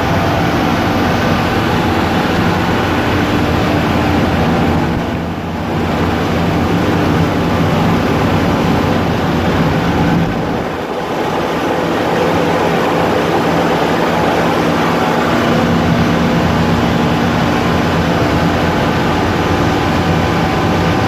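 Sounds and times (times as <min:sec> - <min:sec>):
ship engine room diesel machinery: 0:00.0 - 0:21.0.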